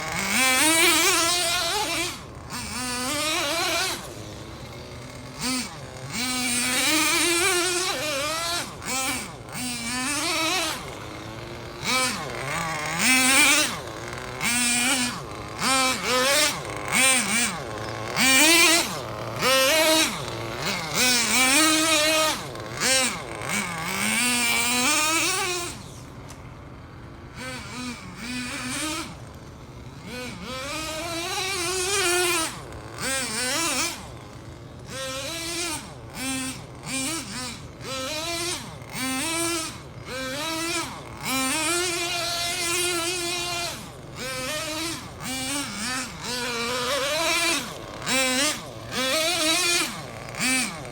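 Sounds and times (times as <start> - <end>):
toy car motor whining: 0.0 - 50.9.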